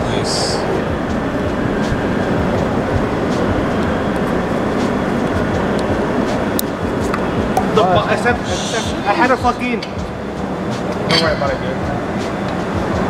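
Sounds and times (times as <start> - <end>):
loud low rumbling: 0.0 - 13.0.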